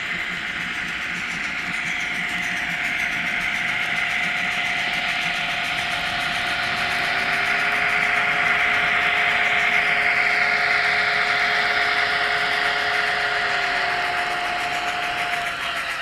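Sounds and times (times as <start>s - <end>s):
small electric motor whine: 0.0s - 16.0s
wheels rattling on rails: 0.0s - 16.0s.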